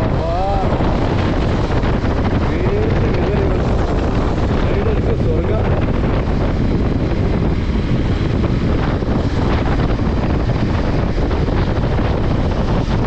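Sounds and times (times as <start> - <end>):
motorcycle running: 0.0 - 13.0
wind buffeting microphone: 0.0 - 13.0.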